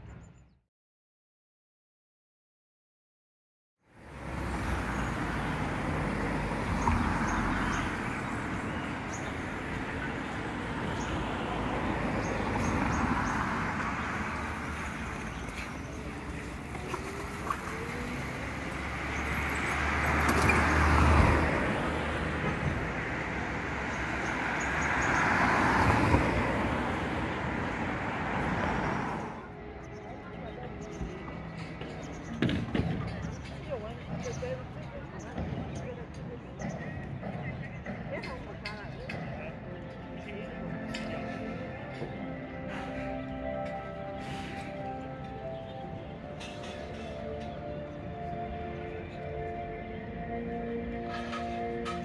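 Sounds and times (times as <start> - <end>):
vehicles passing: 3.8 - 52.0.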